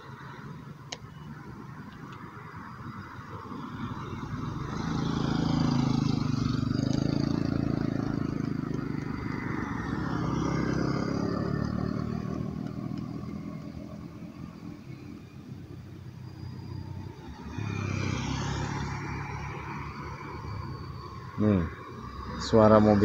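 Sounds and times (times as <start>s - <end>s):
vehicles passing on road: 0.0s - 23.0s.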